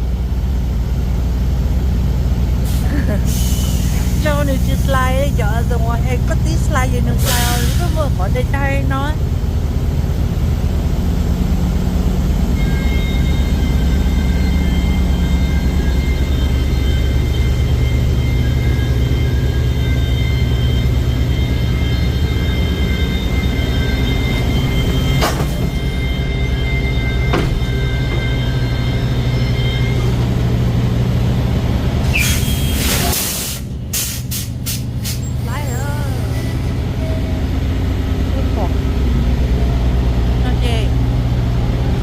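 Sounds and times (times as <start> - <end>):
truck engine droning: 0.0 - 42.0.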